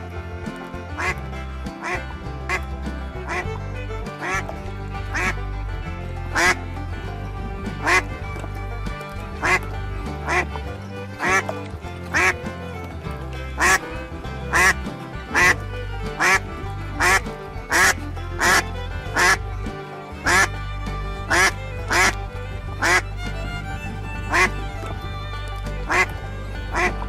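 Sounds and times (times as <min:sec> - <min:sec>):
background music: 0:00.0 - 0:27.0
duck quacking: 0:00.8 - 0:27.0.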